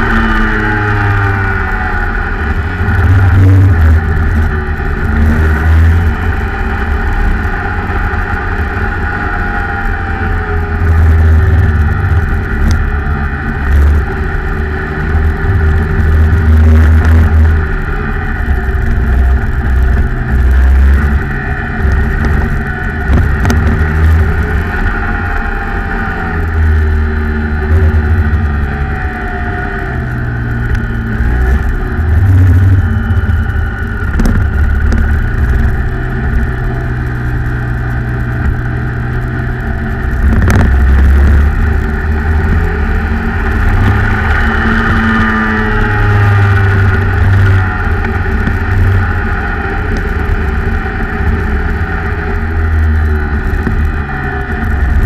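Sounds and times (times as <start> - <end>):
kart engine at racing speed: 0.0 - 55.0
wind buffeting microphone: 10.0 - 55.0.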